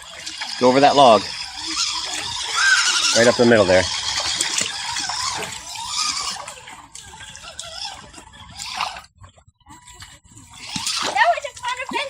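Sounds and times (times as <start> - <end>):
creek water trickling and splashing: 0.0 - 12.0.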